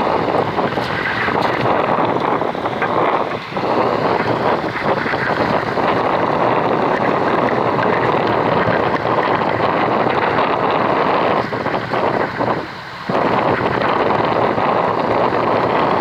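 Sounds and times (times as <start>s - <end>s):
boat at sea: 0.0s - 16.0s
wind: 0.0s - 16.0s
wind buffeting microphone: 0.0s - 16.0s.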